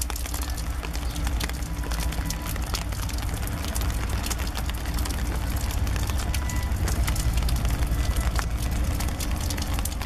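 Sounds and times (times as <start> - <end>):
diesel locomotives rumbling: 0.1 - 10.0.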